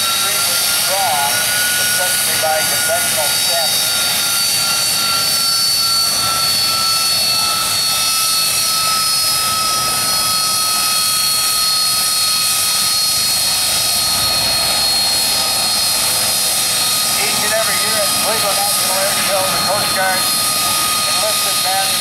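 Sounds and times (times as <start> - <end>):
jet engine whine and hiss: 0.0 - 22.0.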